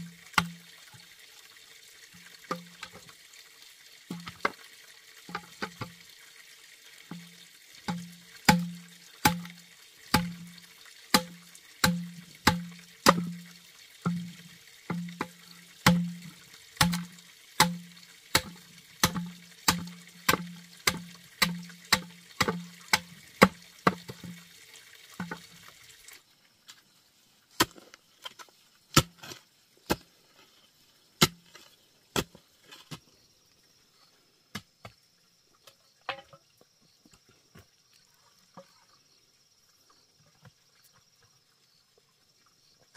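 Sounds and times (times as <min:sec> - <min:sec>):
hiss of running water: 0:00.0 - 0:34.5.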